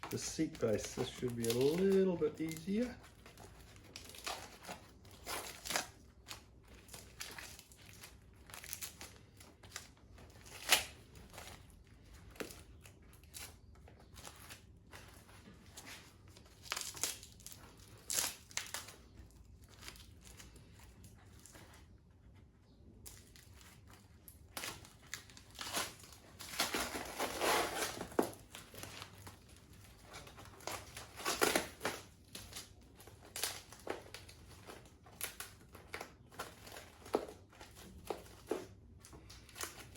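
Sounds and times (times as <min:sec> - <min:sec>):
tape ripping: 0:00.0 - 0:21.8, 0:23.0 - 0:39.9
plastic wrap crinkling: 0:00.0 - 0:39.9.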